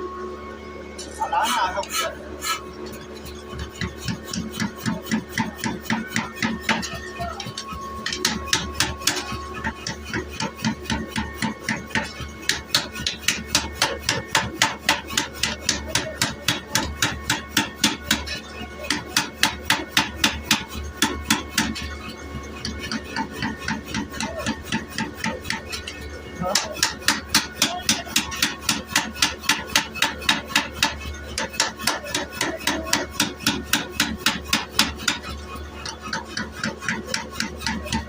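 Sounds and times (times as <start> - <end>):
steady hum: 0.0 - 38.0
power hammer striking workpiece: 3.2 - 38.0.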